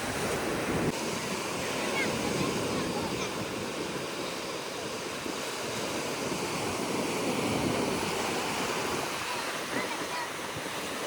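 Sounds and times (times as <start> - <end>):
sea waves washing onto shore: 0.0 - 11.0.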